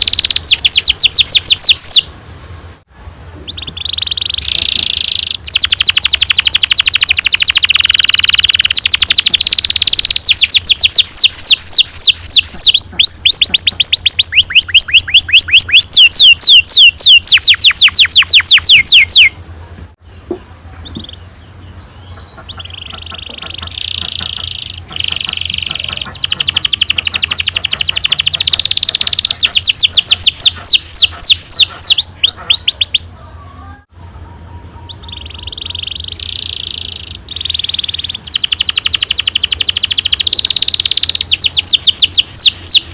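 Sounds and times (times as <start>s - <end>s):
canary singing trills: 0.0s - 2.1s, 3.4s - 19.4s, 20.0s - 42.9s.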